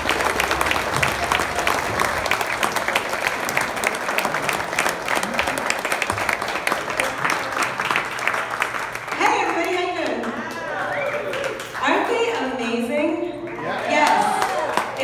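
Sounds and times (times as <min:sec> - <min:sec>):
audience applauding: 0:00.0 - 0:11.9, 0:13.4 - 0:15.0.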